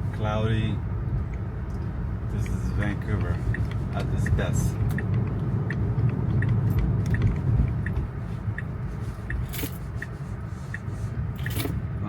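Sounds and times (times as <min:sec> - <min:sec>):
turn signal ticking: 0:00.0 - 0:11.6
road and tyre rumble: 0:00.0 - 0:12.0.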